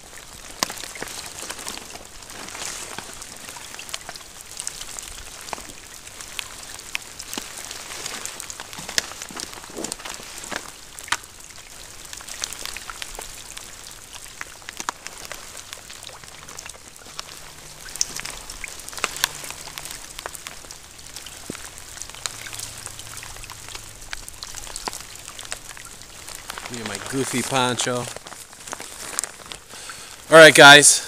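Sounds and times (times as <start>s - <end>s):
raindrops ticking near microphone: 0.0s - 31.0s
steady rain hiss: 0.0s - 31.0s.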